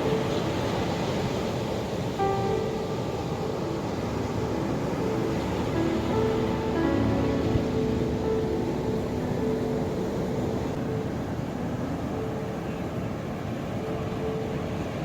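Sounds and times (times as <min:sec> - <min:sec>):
ocean surf rushing: 0:00.0 - 0:15.0
faint held musical tone: 0:02.2 - 0:15.0.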